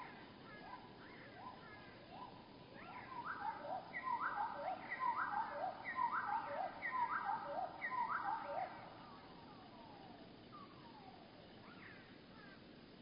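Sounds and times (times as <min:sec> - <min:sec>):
slowed songbird song: 0:00.0 - 0:13.0.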